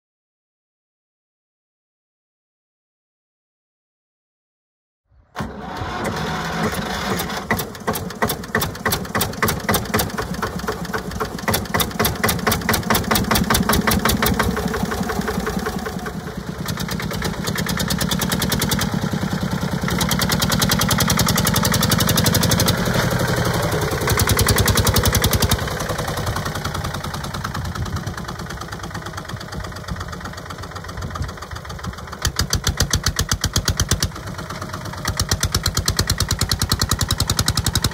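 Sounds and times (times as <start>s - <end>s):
diesel tractor engine running: 5.4s - 37.9s.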